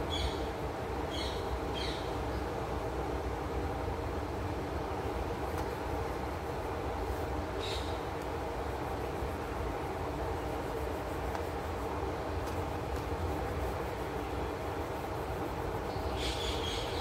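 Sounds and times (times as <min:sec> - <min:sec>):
low rumbling background noise: 0:00.0 - 0:17.0
scratchy hiss: 0:00.0 - 0:17.0.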